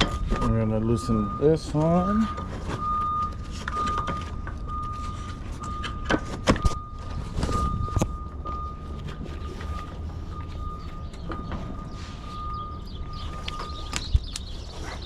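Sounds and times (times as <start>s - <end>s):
low steady rumble: 0.0s - 14.7s.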